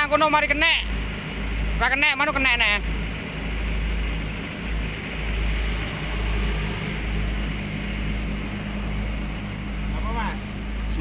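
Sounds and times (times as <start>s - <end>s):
generator running: 0.0s - 11.0s.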